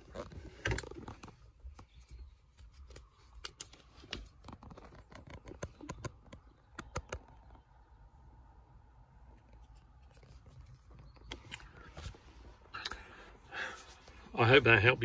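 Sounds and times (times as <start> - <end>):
handling clicks and rustles: 0.0 - 8.0, 9.1 - 15.0.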